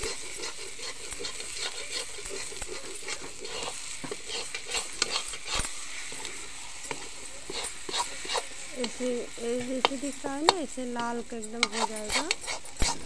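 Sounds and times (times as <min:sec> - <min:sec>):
paste sizzling in oil: 0:00.0 - 0:13.0
stirring scrapes against pan: 0:00.0 - 0:13.0.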